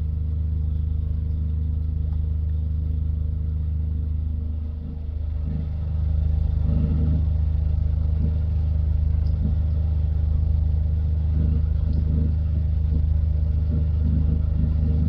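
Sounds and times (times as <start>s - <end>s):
diesel engine low drone: 0.0s - 15.0s.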